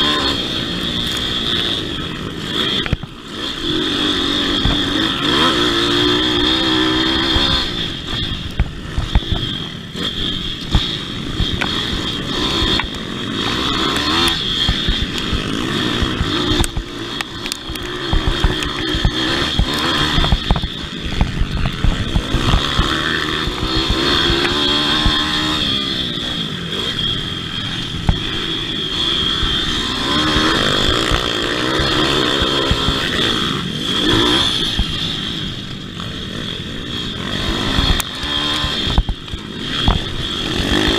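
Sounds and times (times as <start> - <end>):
high-pitched whine: 0.0 - 40.9
motorbike engines revving: 0.0 - 40.9.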